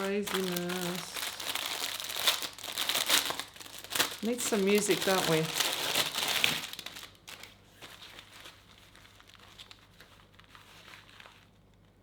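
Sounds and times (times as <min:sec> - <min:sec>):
crinkly material rustling: 0:00.0 - 0:12.0.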